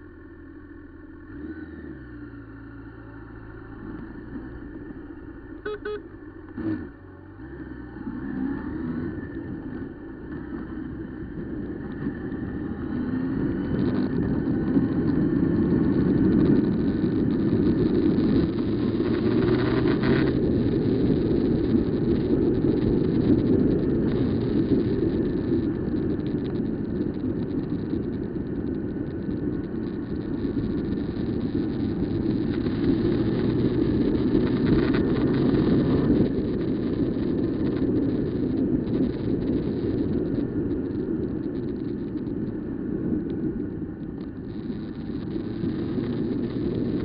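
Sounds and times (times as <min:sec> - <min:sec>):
motorcycle engine accelerating: 0:00.0 - 0:47.0
wind rush on microphone: 0:07.8 - 0:47.0.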